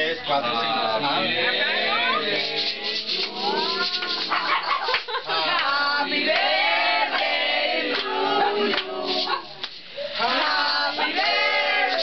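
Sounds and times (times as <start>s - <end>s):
group singing: 0.0s - 12.0s.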